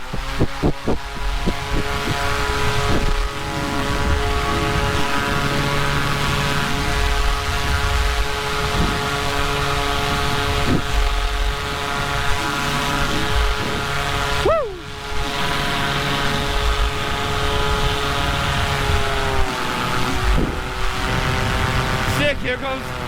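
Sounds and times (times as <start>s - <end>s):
paramotor engine droning: 0.0s - 23.0s.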